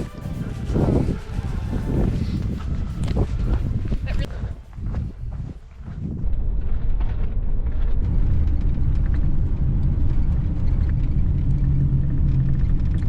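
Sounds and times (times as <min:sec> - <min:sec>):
van engine and tyres rumbling: 0:00.0 - 0:13.0.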